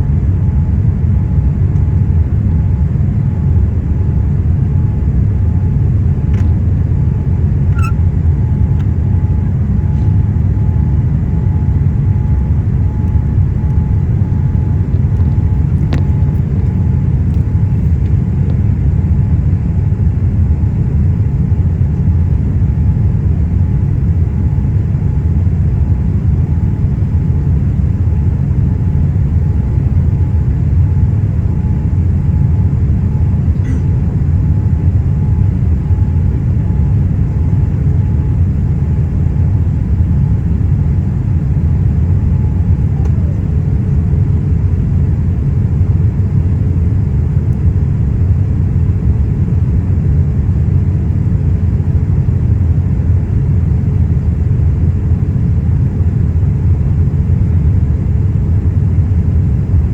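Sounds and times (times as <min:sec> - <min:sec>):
faint pulsing hum: 0:00.0 - 0:59.9
jet engine rumble: 0:00.0 - 0:59.9.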